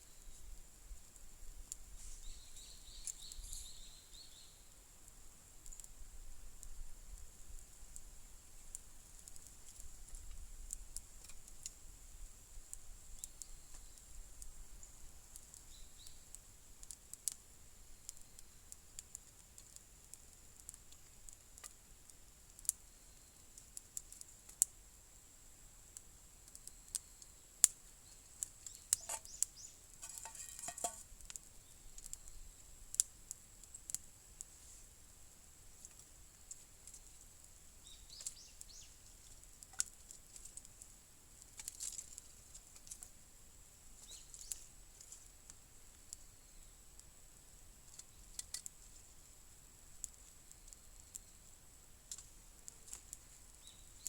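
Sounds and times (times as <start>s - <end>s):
faint steady hiss: 0.0s - 54.0s
wood fire crackling: 0.1s - 54.0s.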